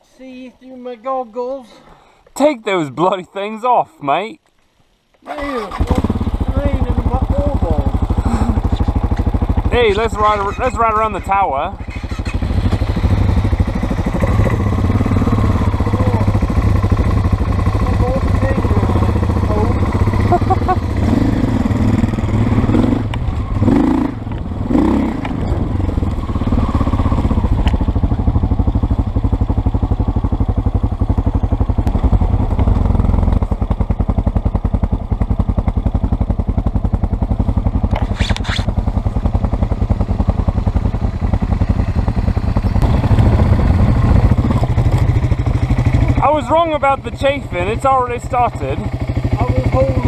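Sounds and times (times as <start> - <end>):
dirt bike engine running: 5.4 - 50.0.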